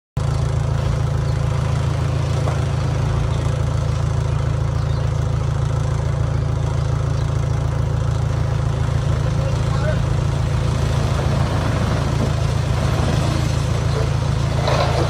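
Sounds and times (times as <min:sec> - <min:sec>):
diesel engine running steadily: 0:00.2 - 0:15.0.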